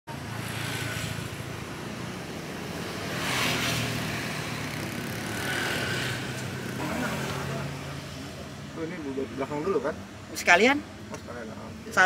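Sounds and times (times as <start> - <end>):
motor vehicles humming: 0.1 - 12.0.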